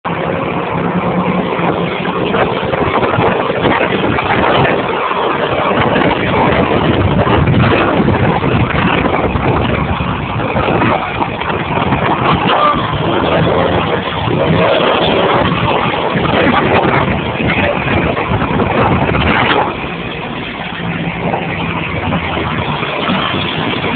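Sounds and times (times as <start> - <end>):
wind and road noise: 0.0 - 23.9
low engine hum: 0.1 - 23.9.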